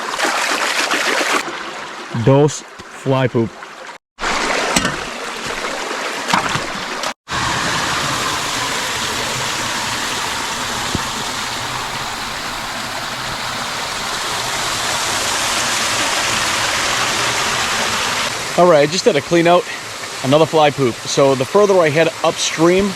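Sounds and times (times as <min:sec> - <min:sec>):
water rushing over rocks: 0:00.0 - 0:22.9.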